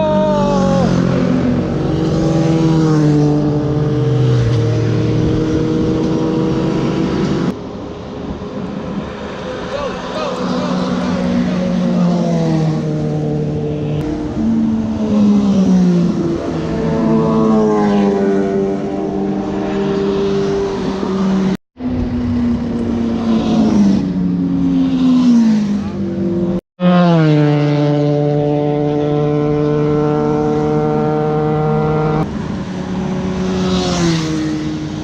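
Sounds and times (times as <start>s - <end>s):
motorcycle engine at road speed: 0.0s - 9.6s, 10.2s - 35.0s.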